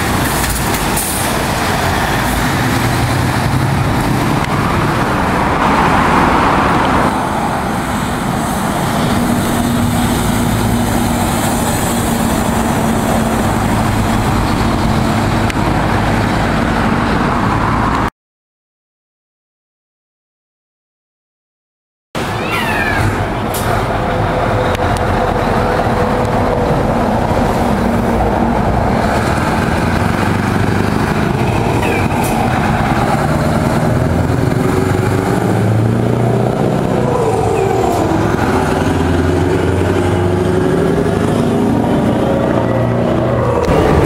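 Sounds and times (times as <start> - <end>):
truck diesel engine driving past: 0.0 - 18.0, 22.2 - 44.0.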